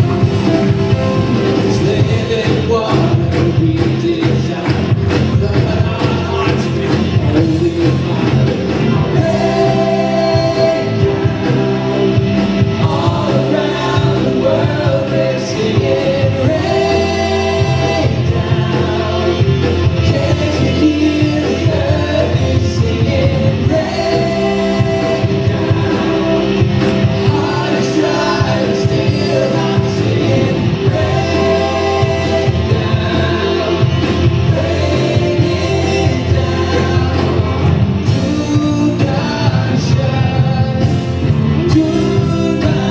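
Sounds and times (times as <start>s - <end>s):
people singing: 0.0s - 42.9s
worship band playing: 0.0s - 42.9s.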